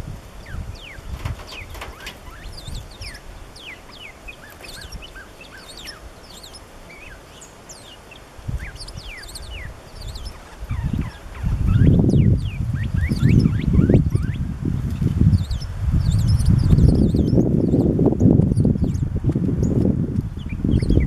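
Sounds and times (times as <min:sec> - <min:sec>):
bird chirping: 0:00.0 - 0:21.0
sparrows calling: 0:00.0 - 0:21.0.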